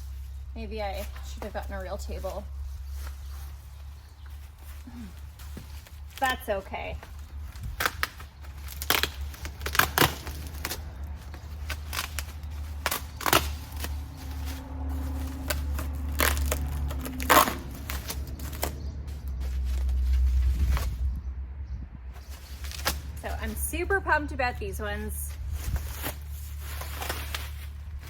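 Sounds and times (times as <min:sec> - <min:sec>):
packaging crinkling: 0:00.0 - 0:21.0, 0:22.2 - 0:23.7, 0:25.3 - 0:28.0
steady low rumble: 0:00.0 - 0:28.0.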